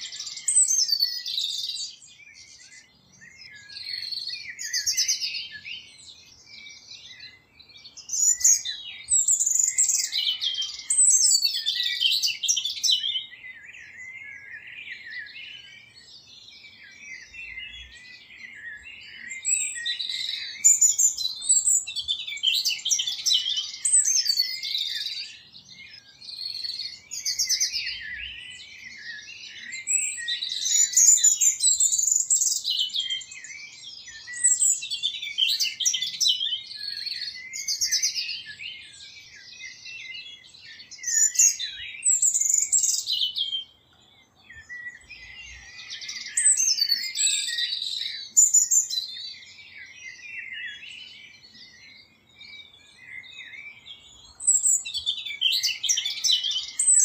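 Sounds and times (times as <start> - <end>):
songbirds chirping and warbling: 0.0 - 57.0.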